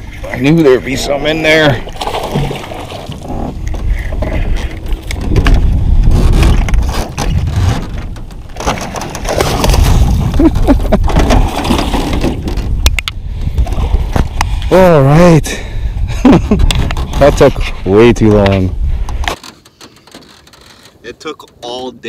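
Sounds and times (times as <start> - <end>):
wind buffeting microphone: 0.0 - 19.3.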